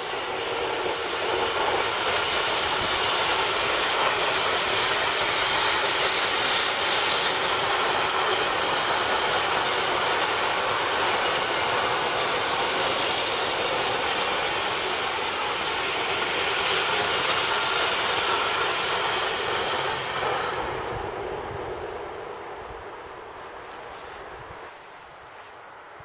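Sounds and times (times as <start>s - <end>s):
freight train rolling past: 0.0s - 25.5s.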